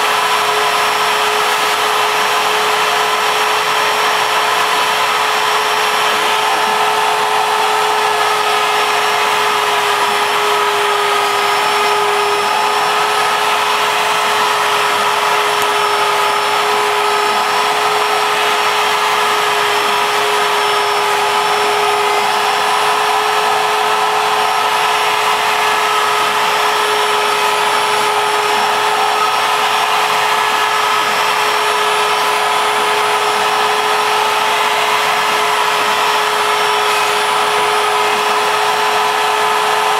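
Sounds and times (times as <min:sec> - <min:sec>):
router spindle milling with high whine: 0:00.0 - 0:39.9
vacuum pulling sawdust: 0:00.0 - 0:39.9.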